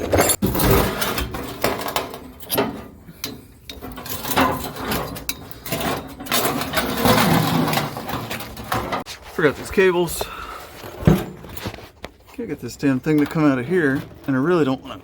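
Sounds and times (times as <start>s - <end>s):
fuel tank clunking and scraping: 0.0s - 12.4s.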